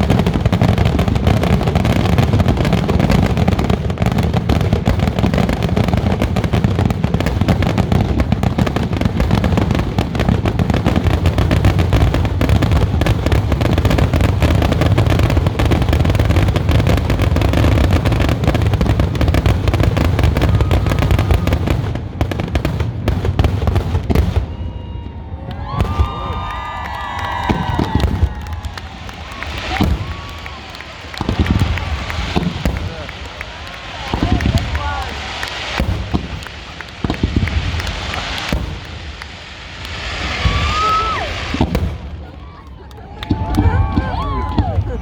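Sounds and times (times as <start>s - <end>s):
fireworks bursts and booms: 0.0s - 45.0s.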